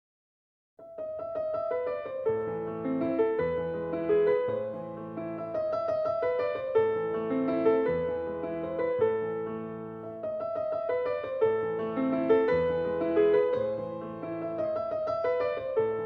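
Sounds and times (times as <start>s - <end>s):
gentle piano melody: 0.8s - 16.0s.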